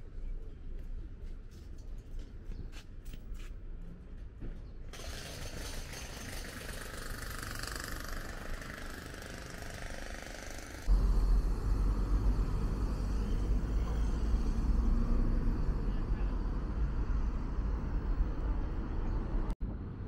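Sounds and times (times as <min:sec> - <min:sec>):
city traffic engine rumble: 0:00.0 - 0:20.0.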